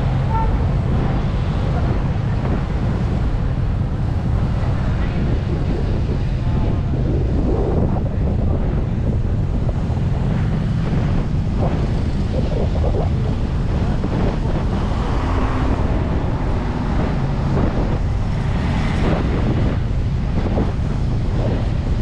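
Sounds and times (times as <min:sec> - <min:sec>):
car driving road noise: 0:00.0 - 0:22.0
wind buffeting microphone: 0:00.0 - 0:22.0.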